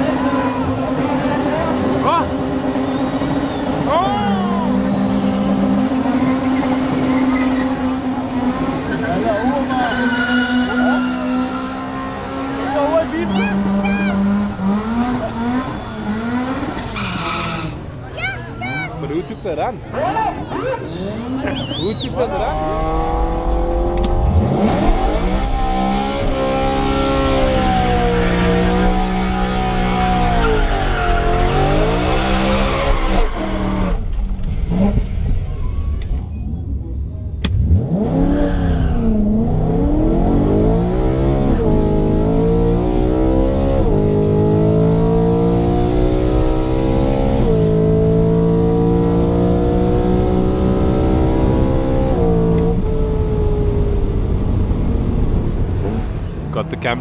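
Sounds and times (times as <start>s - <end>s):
car engine revving and accelerating: 0.0s - 18.0s, 20.6s - 35.5s, 36.4s - 57.0s.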